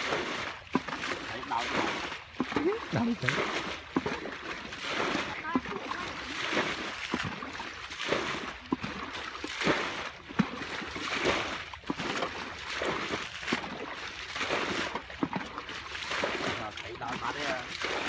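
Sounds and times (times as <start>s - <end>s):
muddy water sloshing and splashing: 0.0s - 18.0s.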